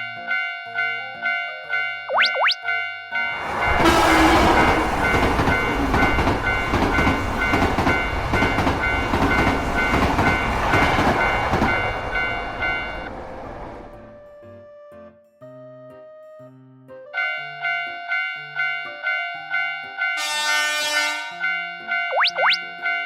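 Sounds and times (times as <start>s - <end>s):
railroad crossing alarm dinging: 0.0s - 13.1s, 17.2s - 23.0s.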